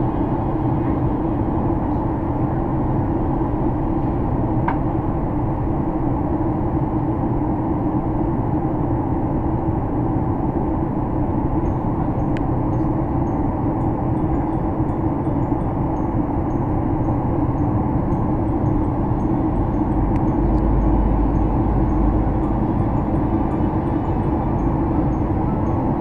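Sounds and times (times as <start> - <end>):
airplane cabin roar: 0.0 - 26.0.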